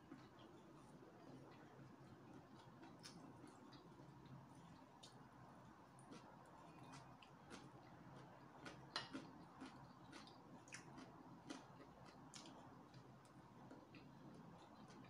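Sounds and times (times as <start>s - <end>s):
chewing: 0.0s - 5.2s, 6.0s - 15.0s.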